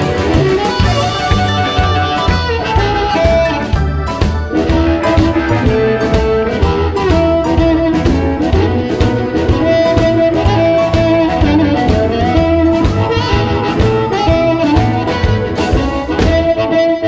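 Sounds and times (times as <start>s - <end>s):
drums keeping steady beat: 0.0s - 16.8s
amplified blues harmonica: 0.0s - 17.0s
bass guitar: 0.0s - 17.0s
electric guitar: 0.0s - 17.0s.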